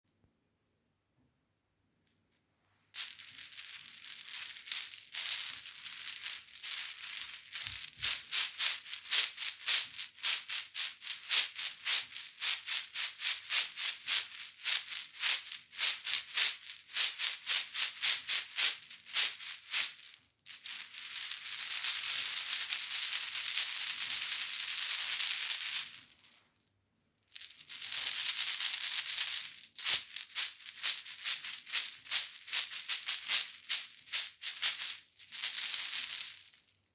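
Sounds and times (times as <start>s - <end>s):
shell rattle shaking: 3.0s - 26.3s, 27.4s - 36.6s.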